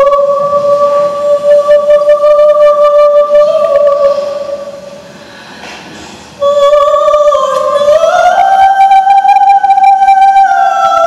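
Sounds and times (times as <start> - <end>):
high voice singing: 0.0 - 5.0, 6.0 - 11.0.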